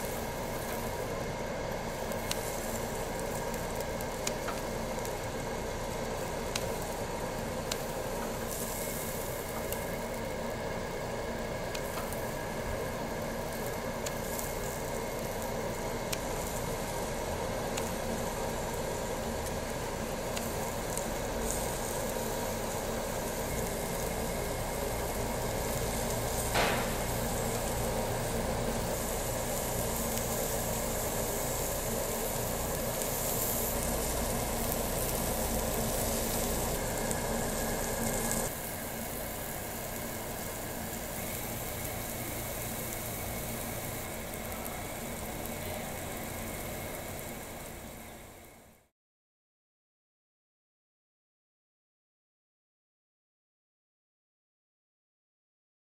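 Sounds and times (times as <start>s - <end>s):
meat sizzling on a grill pan: 0.0s - 48.0s.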